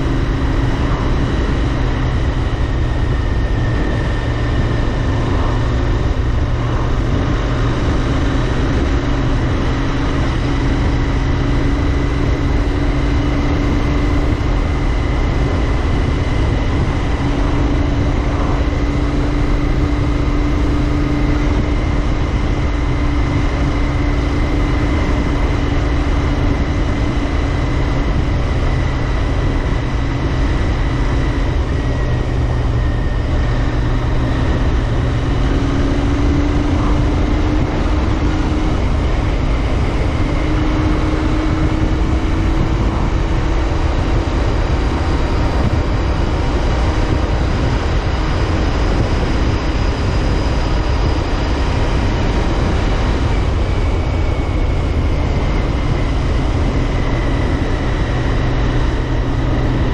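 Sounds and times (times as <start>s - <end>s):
motorcycle engine cruising: 0.0s - 59.9s
wind on microphone: 0.0s - 59.9s.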